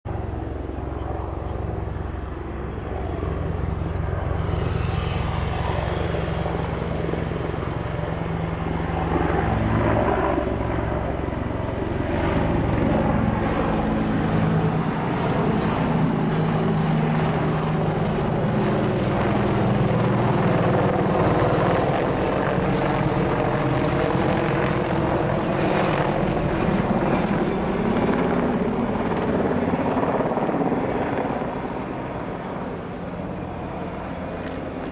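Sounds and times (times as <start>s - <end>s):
helicopter rotor beat and engine drone: 0.1s - 34.9s.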